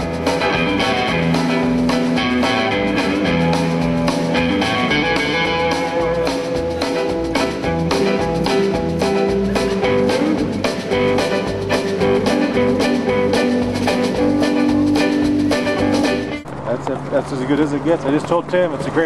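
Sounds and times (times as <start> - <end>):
band music with guitar and drums: 0.0 - 16.5.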